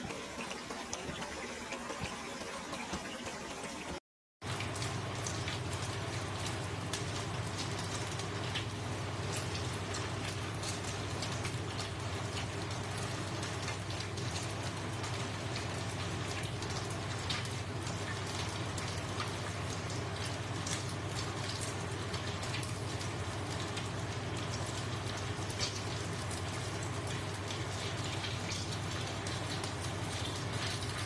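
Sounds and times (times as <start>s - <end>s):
batter sizzling in oil: 0.0s - 31.0s.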